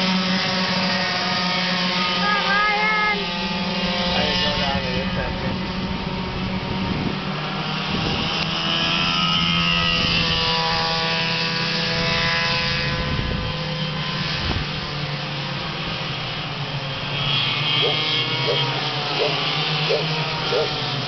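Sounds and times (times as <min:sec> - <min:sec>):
go-kart engines racing: 0:00.0 - 0:21.0.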